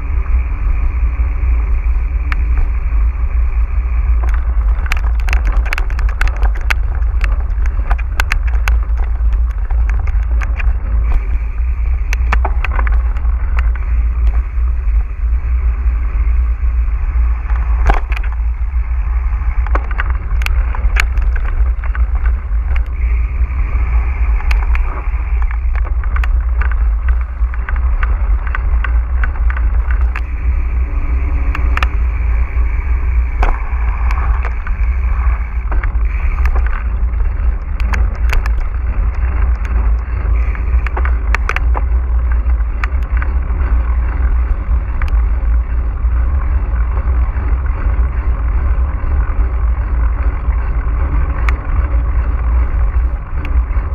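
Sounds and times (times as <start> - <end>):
bike clicks and rattles: 0.0 - 53.9
wind rumble on microphone: 0.0 - 53.9.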